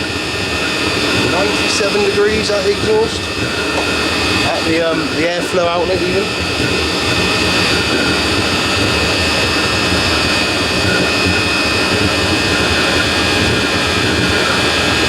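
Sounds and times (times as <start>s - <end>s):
heater burner and blower rushing: 0.0s - 15.0s
high whine: 0.0s - 15.0s.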